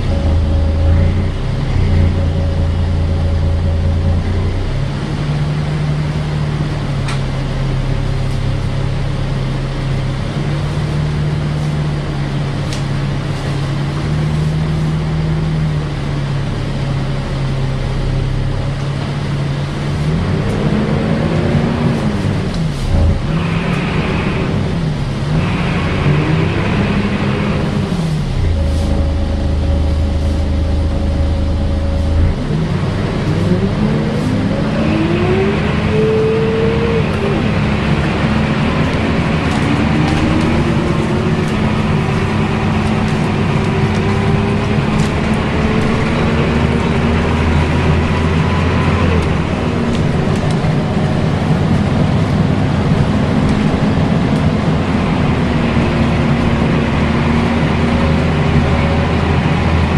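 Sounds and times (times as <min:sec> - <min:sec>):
bus engine whining drone: 0:00.0 - 0:59.9.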